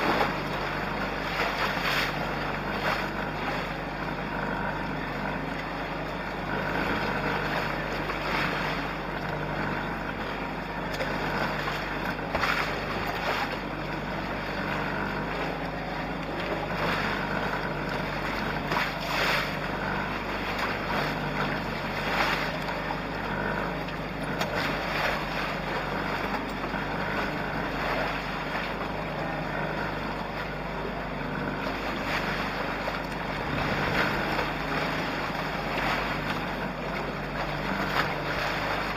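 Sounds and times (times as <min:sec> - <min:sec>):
wind and water rushing: 0:00.0 - 0:04.4, 0:06.1 - 0:30.9, 0:31.6 - 0:38.9
waves splashing against hulls: 0:00.0 - 0:38.9.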